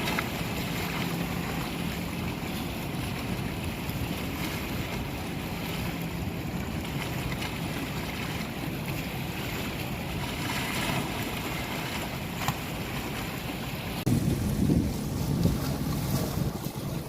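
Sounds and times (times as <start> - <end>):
water noise: 0.0 - 17.0
wind: 0.0 - 17.0
wind rumbling on microphone: 0.0 - 17.0.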